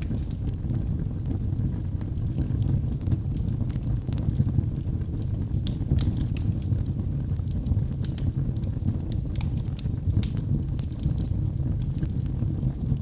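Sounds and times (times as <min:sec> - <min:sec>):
flames rumbling: 0:00.0 - 0:13.0
logs crackling and popping: 0:00.0 - 0:13.0.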